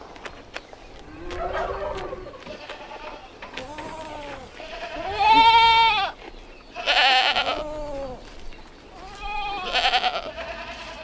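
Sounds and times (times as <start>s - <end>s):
goats bleating: 1.1s - 11.0s.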